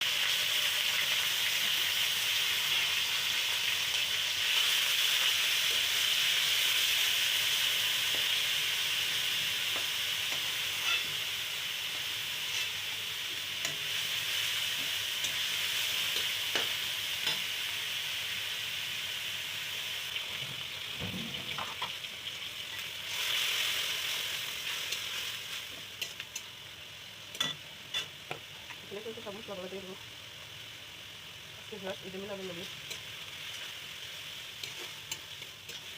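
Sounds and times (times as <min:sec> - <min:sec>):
food sizzling in hot oil: 0:00.0 - 0:35.9.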